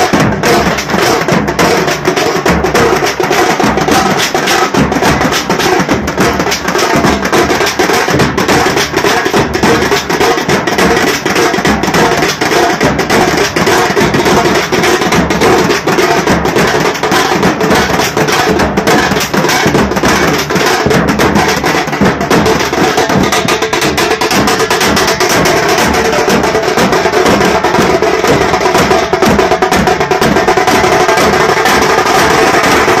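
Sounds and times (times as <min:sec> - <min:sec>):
drum band playing side drums: 0:00.0 - 0:33.0.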